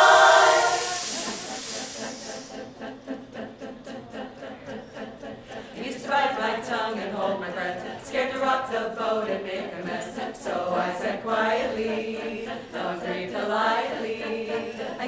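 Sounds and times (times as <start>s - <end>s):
a cappella chorus singing: 0.0s - 15.0s.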